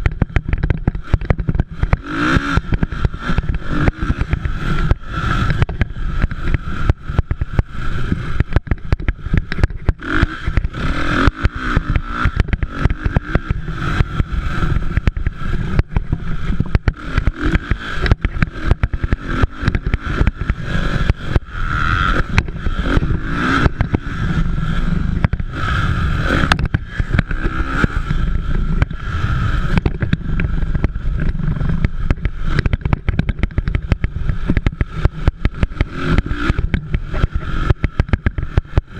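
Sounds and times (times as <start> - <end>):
motocross motorcycles revving: 0.0 - 38.9.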